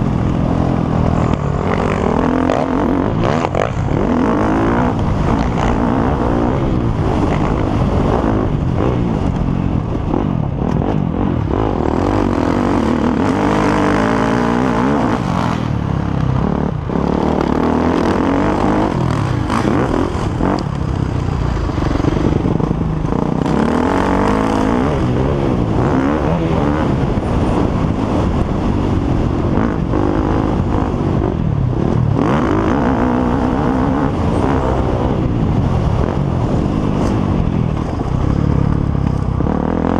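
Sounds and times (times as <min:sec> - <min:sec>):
motocross motorcycles revving: 0:00.0 - 0:39.9.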